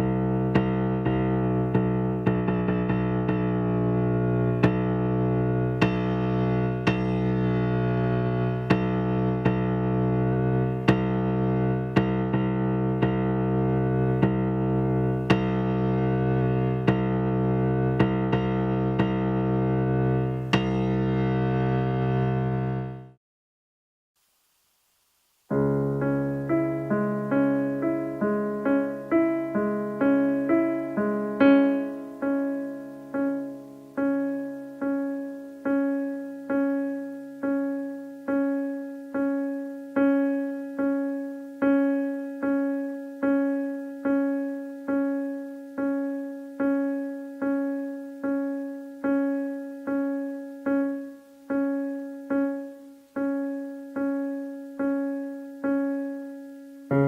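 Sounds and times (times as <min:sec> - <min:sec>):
digital piano playing: 0:00.0 - 0:23.2, 0:25.5 - 0:57.0.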